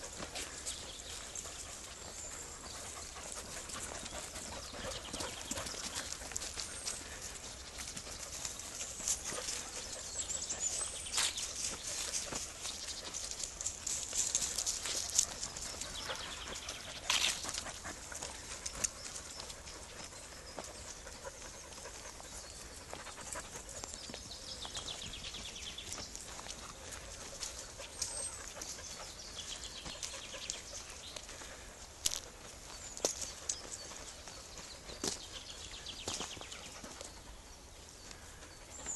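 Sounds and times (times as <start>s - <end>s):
dog panting: 0.0s - 38.9s
paws crackling over dry leaves: 0.0s - 38.9s.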